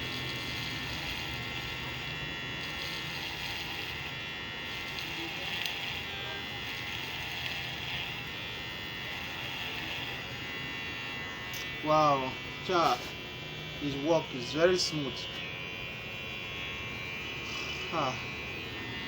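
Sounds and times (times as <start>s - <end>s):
electric hair clipper buzzing: 0.0s - 19.0s.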